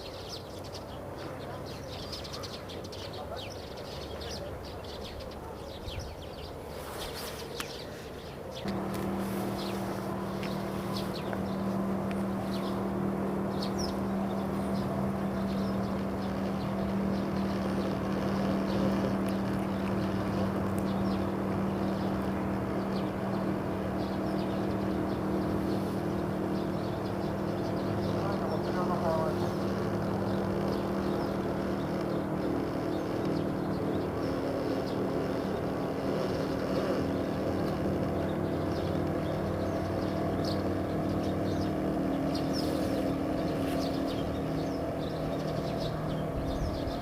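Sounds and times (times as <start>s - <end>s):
engine drone: 0.0s - 47.0s
small birds chirping: 0.0s - 47.0s.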